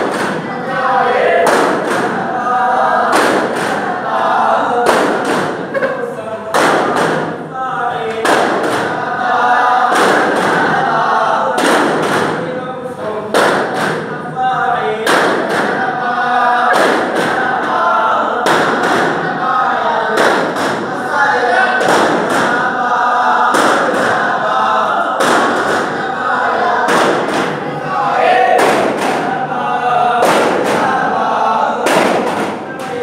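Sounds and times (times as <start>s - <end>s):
men chanting in unison: 0.0s - 33.0s.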